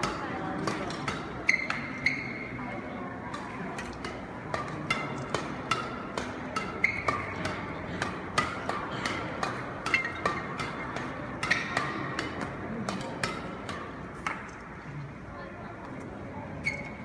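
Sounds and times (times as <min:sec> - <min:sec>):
rackets striking shuttlecock: 0:00.0 - 0:02.6, 0:03.3 - 0:14.7.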